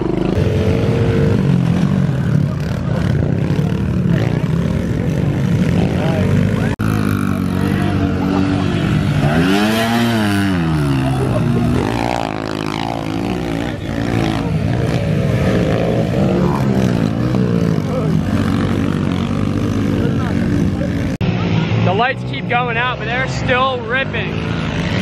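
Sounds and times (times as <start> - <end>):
pit bike engines revving: 0.0 - 25.0.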